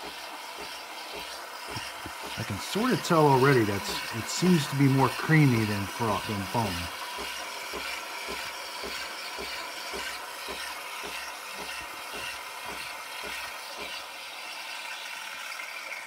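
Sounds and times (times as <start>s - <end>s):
milk frother hissing and pulsing: 0.0s - 16.0s.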